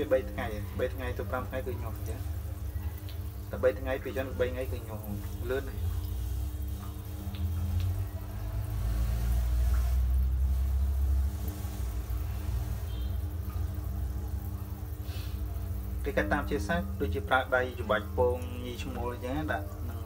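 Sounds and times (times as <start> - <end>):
steady mechanical hum: 0.0 - 20.0
water trickling in tank: 0.0 - 20.0.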